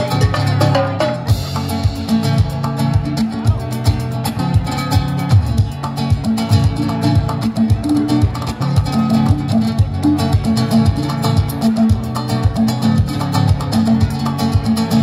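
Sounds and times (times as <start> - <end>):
acoustic guitar: 0.0 - 15.0
drum kit: 0.0 - 15.0.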